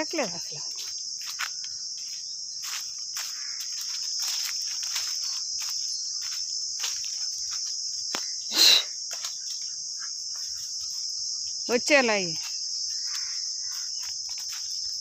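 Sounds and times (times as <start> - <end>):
high-pitched insect chorus: 0.0 - 15.0
footsteps on dry leaves: 0.2 - 15.0.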